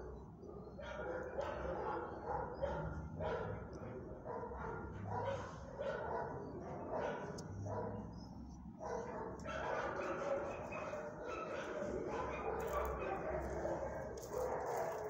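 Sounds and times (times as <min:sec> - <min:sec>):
dog barking: 0:00.4 - 0:08.1, 0:08.8 - 0:15.0.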